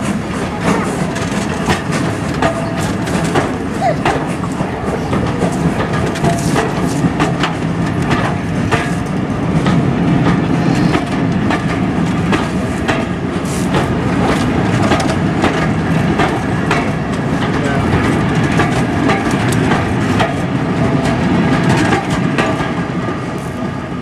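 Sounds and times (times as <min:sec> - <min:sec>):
wheels clicking over rail joints: 0:00.0 - 0:23.0
train coaches rumbling past: 0:00.0 - 0:24.0.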